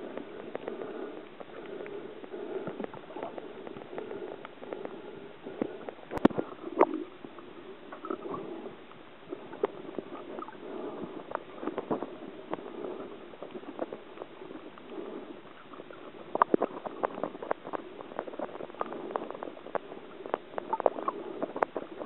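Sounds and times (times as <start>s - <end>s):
muffled underwater water noise: 0.0s - 22.0s
small clicks and crackles: 0.0s - 22.0s.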